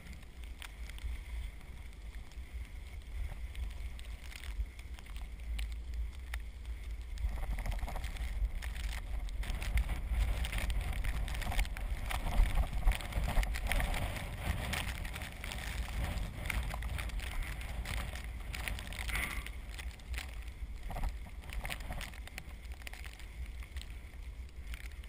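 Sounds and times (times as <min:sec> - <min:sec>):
tyres hissing and crunching in snow: 0:00.0 - 0:25.0
wind rumble on microphone: 0:00.0 - 0:25.0.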